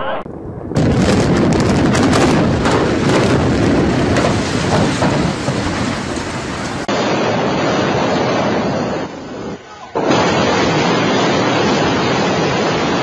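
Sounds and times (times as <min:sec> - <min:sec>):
rumble of building collapsing: 0:00.2 - 0:13.0
demolition charges cracking: 0:00.3 - 0:13.0.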